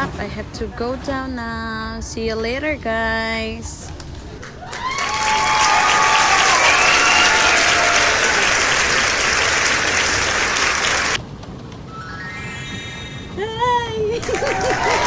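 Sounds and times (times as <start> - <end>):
metro train rolling: 0.0 - 15.0.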